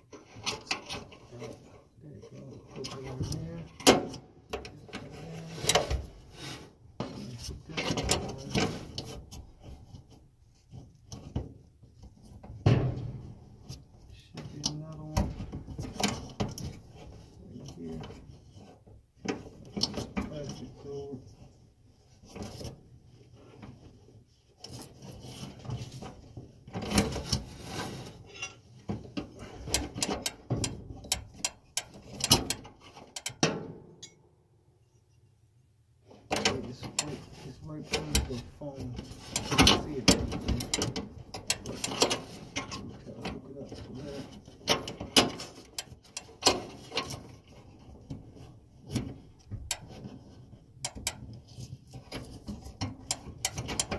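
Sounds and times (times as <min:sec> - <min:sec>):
dryer parts clicking and scraping: 0:00.0 - 0:34.2, 0:36.0 - 0:53.9.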